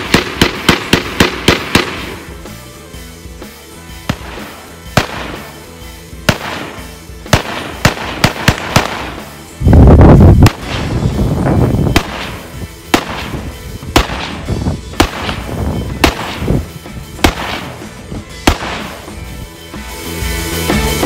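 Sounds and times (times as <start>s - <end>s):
gunshots: 0.0s - 2.5s, 4.0s - 19.2s
background music: 0.0s - 21.0s.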